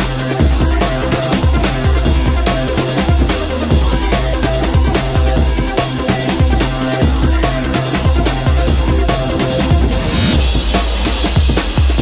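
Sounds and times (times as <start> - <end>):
drum and bass music: 0.0 - 12.0.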